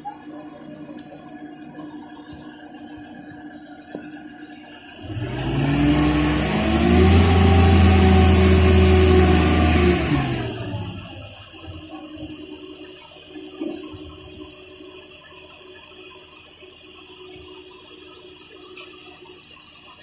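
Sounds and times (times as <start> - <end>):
heavy engine idling and revving: 0.0 - 20.0.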